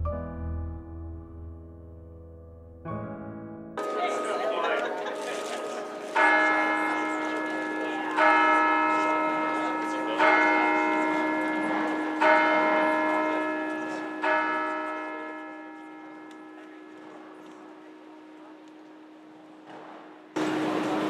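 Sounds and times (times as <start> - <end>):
church bell tolling: 3.8 - 21.0.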